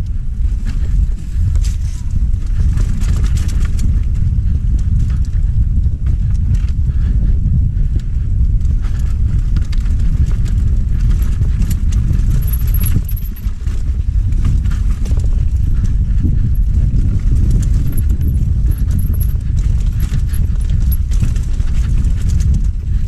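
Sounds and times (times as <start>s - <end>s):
bike clicking and knocking: 0.0s - 23.0s
wind buffeting microphone: 0.0s - 23.0s.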